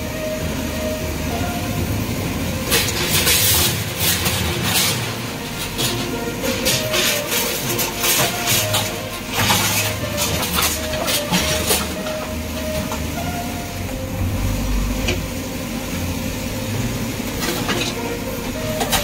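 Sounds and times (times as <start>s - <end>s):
diesel engine under load: 0.0s - 19.0s
timber and sheet metal crashing: 2.6s - 15.5s, 16.2s - 19.0s.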